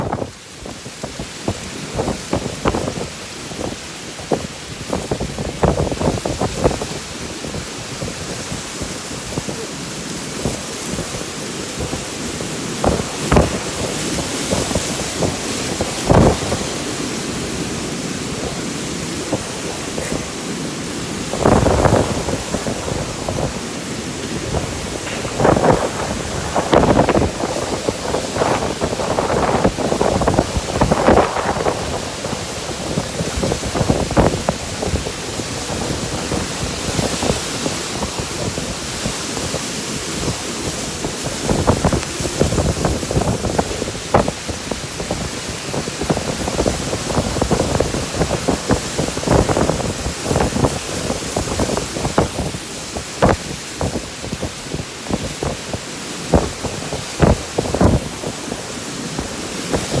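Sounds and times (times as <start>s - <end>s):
heavy rain: 0.0s - 60.0s
strong wind: 0.0s - 60.0s.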